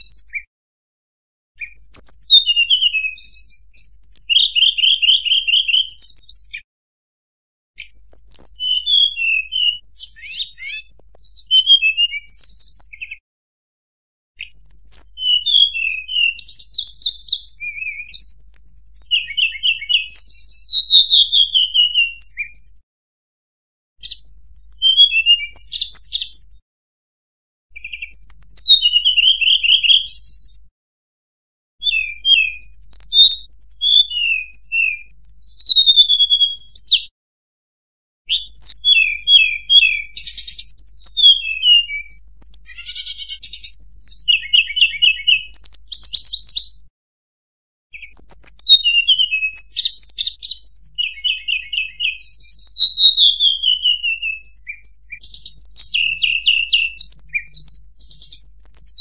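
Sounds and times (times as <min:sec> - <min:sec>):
recorded bird song whistled phrases: 0:00.0 - 0:00.5, 0:01.6 - 0:06.7, 0:07.8 - 0:13.2, 0:14.4 - 0:22.8, 0:24.0 - 0:26.6, 0:27.7 - 0:30.7, 0:31.8 - 0:37.1, 0:38.2 - 0:46.9, 0:47.9 - 0:59.0.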